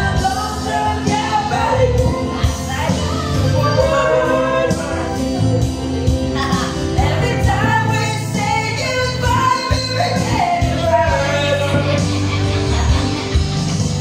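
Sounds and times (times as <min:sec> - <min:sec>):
song with bass line: 0:00.0 - 0:14.0.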